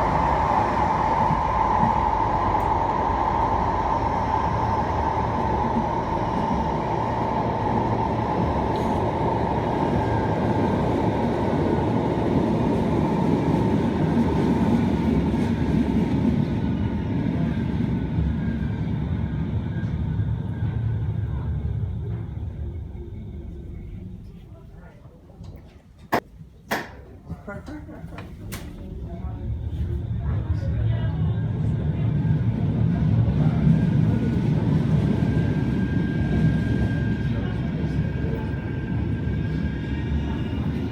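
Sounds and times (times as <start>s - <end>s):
tram wheel and running rumble: 0.0s - 26.2s, 27.4s - 40.9s.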